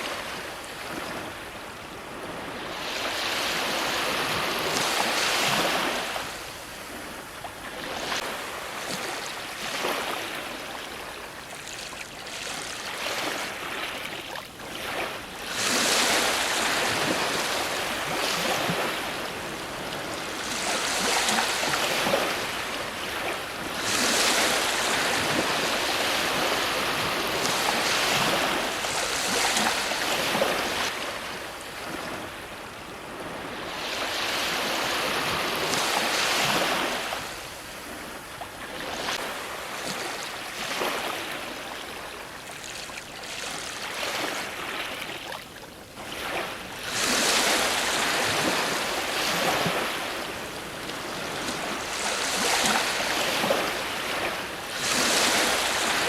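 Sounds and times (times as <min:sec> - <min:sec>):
ocean waves breaking: 0:00.0 - 0:45.4, 0:46.0 - 0:56.0.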